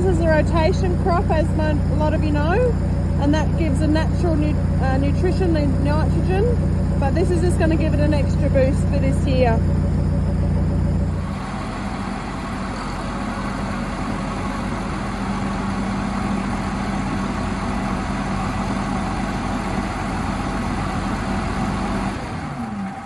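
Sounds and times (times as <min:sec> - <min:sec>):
large engine humming: 0:00.0 - 0:23.0.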